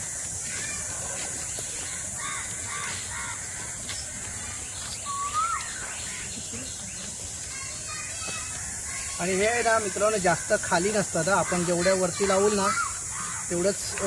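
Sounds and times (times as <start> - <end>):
harsh bird calls: 0.0 - 14.0
steady high hiss: 0.0 - 14.0.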